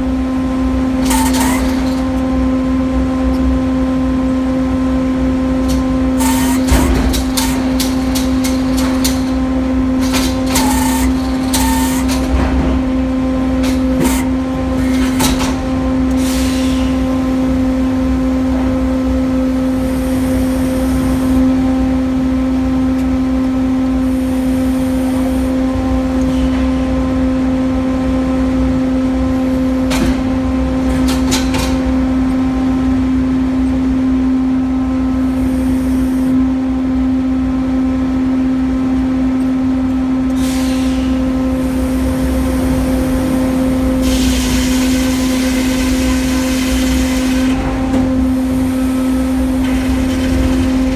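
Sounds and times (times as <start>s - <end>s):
sawmill power unit drone: 0.0s - 50.9s.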